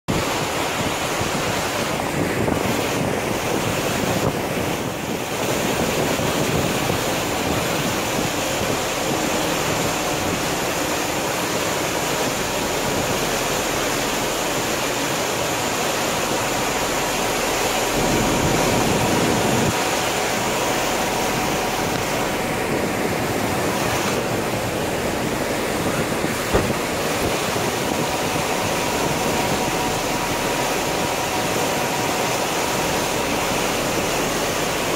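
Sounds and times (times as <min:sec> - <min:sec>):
water rushing along ferry: 0:00.1 - 0:34.9
wind buffeting microphone: 0:00.1 - 0:34.9.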